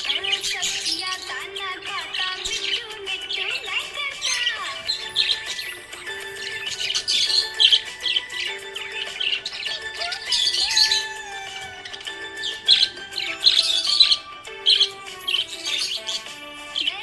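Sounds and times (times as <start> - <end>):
background music: 0.0 - 17.0
budgerigar chirping: 0.0 - 17.0.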